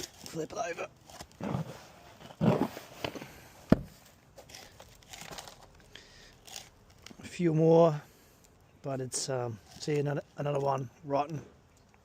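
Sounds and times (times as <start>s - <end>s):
container and soil rustling: 0.0s - 8.0s, 8.8s - 11.5s.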